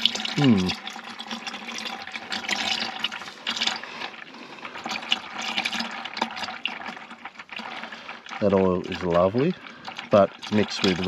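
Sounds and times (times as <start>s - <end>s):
oil pouring and splashing: 0.0s - 11.0s.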